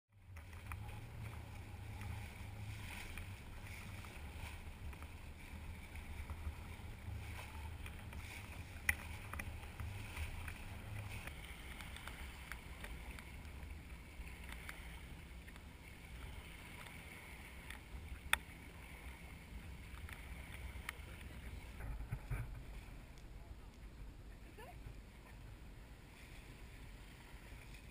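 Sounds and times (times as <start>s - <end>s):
water rushing along a hull: 0.1s - 27.9s.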